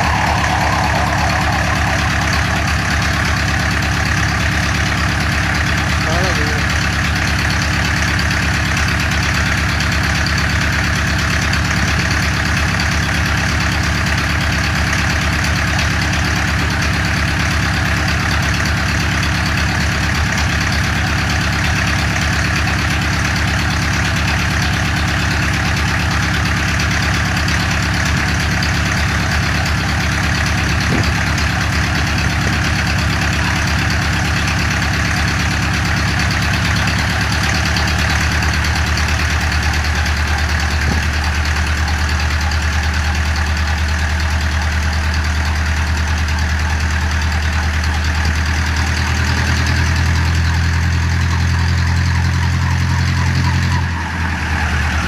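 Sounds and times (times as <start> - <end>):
helicopter engine running steadily: 0.0 - 50.8.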